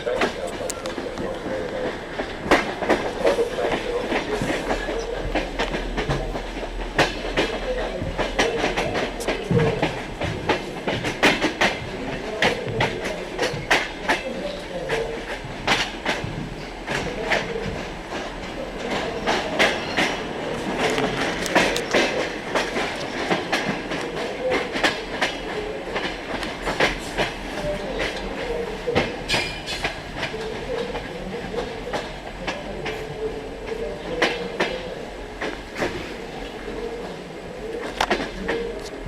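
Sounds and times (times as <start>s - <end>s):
train clicks and knocks: 0.0s - 39.0s
train running hum: 0.0s - 39.0s.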